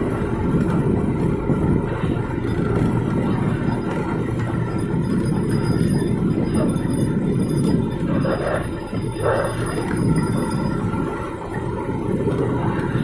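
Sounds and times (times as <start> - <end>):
boat engine and net hauler drone: 0.0 - 13.0.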